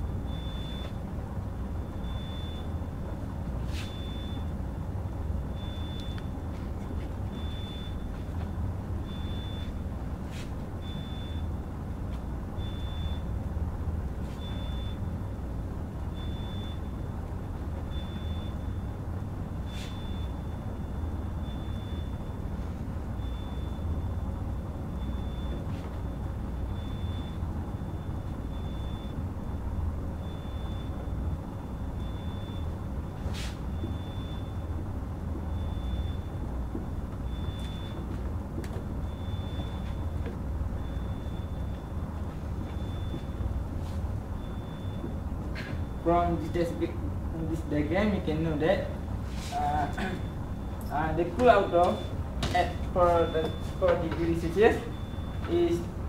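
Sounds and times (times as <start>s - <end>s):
low room noise rumble: 0.0s - 56.0s.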